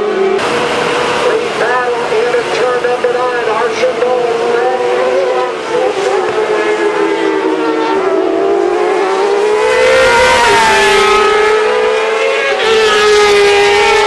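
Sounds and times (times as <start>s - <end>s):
motorcycle engines revving high: 0.0s - 14.0s.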